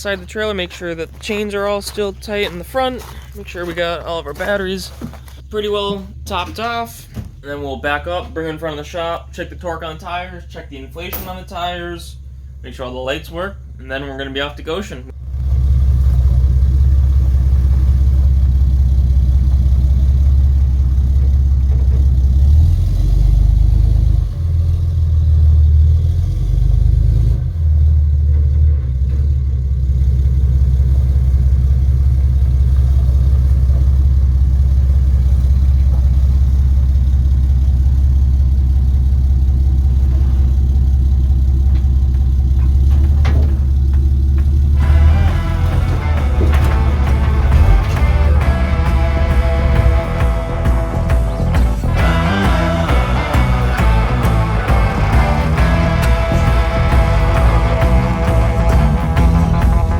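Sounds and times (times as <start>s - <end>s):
truck engine and road rumble: 0.0s - 59.9s.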